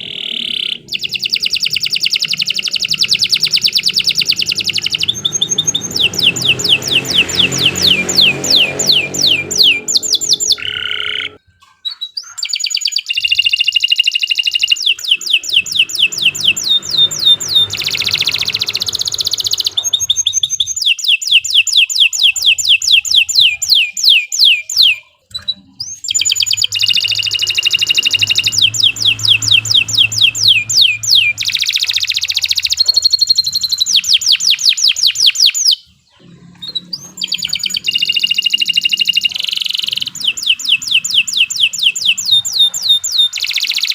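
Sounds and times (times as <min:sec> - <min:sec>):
canary singing trills: 0:00.0 - 0:43.9.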